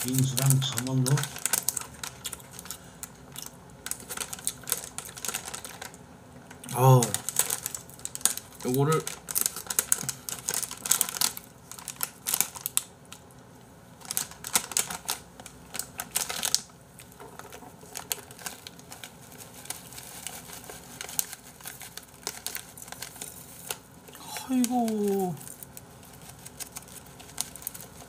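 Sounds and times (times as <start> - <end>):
snack pouch crackling: 0.0 - 13.2, 14.0 - 28.0.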